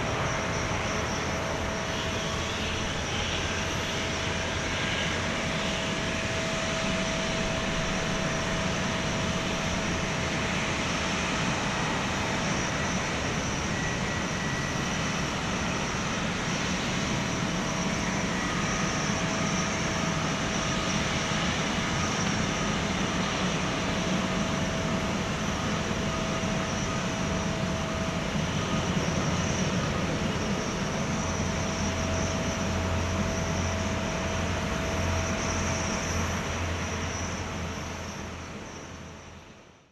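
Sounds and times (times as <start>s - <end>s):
jet engines idling: 0.0s - 39.5s.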